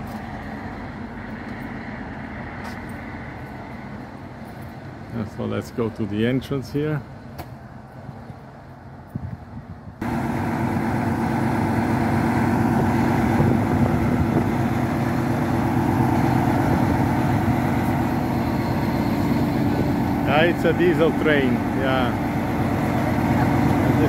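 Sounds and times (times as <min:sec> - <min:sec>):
diesel train engine idling: 0:00.0 - 0:09.0, 0:09.9 - 0:24.0.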